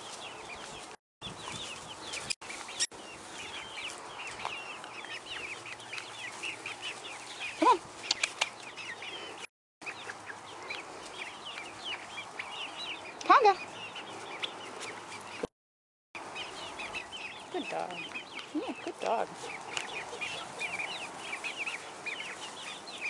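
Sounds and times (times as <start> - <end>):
chicks peeping and clucking: 0.0 - 15.5, 16.2 - 23.0.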